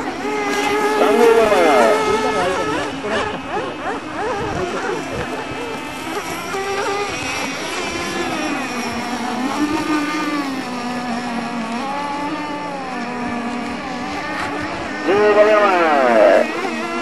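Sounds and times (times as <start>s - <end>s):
radio-controlled boat motors whining: 0.0s - 17.0s.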